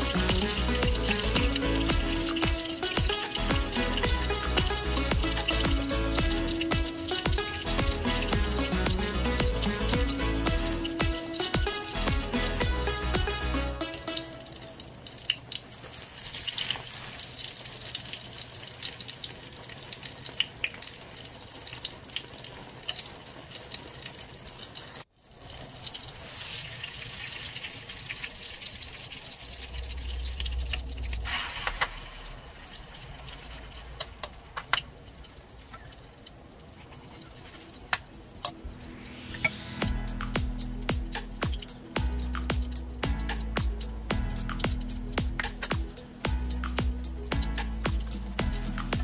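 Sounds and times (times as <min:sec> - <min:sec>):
food sizzling in hot oil: 0:00.0 - 0:49.0.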